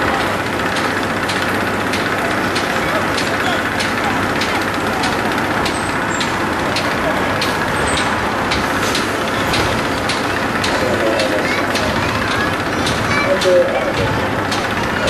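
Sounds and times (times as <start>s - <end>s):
crowd din: 0.0s - 15.0s
faint voices: 0.0s - 15.0s
regular clicking: 0.2s - 15.0s.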